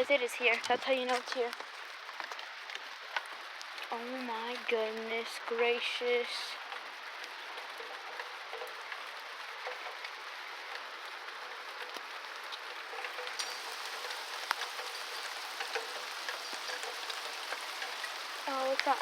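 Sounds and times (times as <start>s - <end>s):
heavy rain falling: 0.0s - 19.0s
single raindrops striking sharply: 0.0s - 19.0s.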